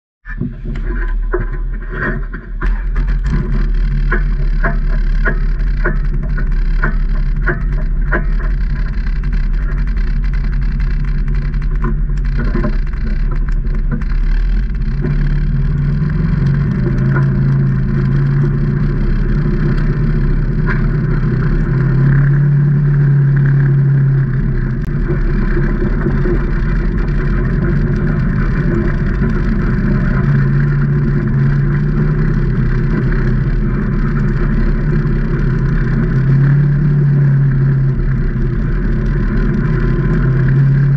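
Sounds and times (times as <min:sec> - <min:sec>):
off-road vehicle engine: 0:00.2 - 0:40.9
regular clicks: 0:00.8 - 0:40.9.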